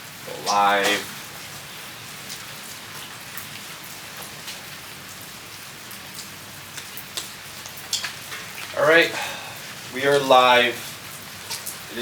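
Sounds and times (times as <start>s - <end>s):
raindrops ticking: 0.0s - 12.0s
steady rain hiss: 0.0s - 12.0s.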